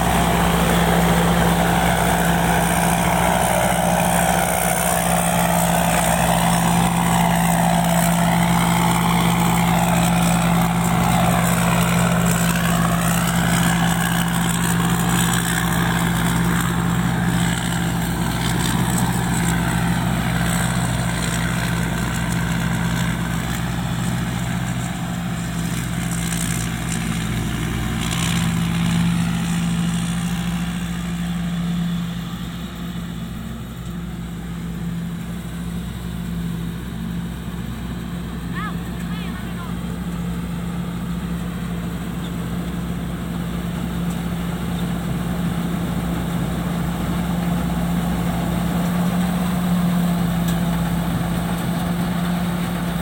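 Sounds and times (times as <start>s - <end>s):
combine harvester engine droning: 0.0s - 53.0s.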